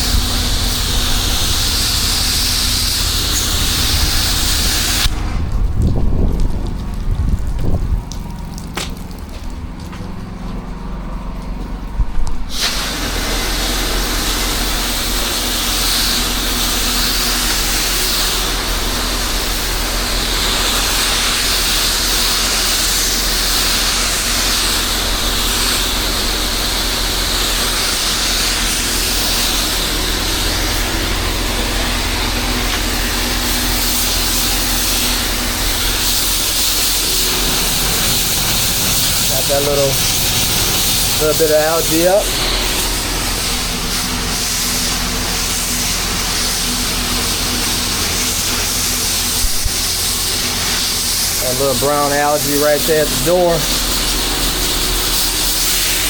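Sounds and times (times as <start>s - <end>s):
water jet hissing: 0.0s - 5.5s, 12.4s - 56.0s
pressure washer engine humming: 0.0s - 56.0s.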